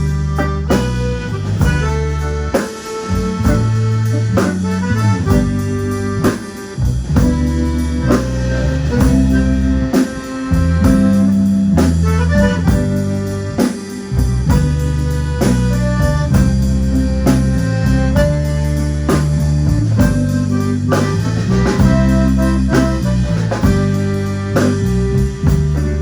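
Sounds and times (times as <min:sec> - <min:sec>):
band music with drums bass guitar: 0:00.0 - 0:26.0
reedy held notes: 0:00.0 - 0:26.0.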